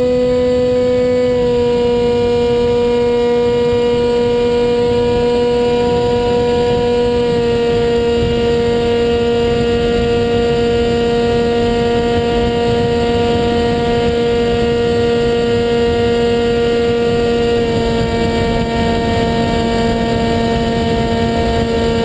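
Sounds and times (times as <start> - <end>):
electric motor whining hum: 0.0 - 22.0.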